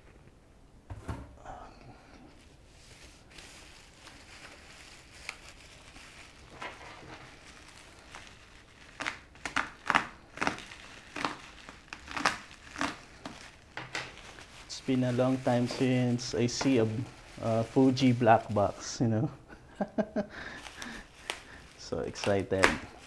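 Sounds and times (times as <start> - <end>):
packaging crinkling and rustling: 2.4 - 19.0, 20.5 - 23.0.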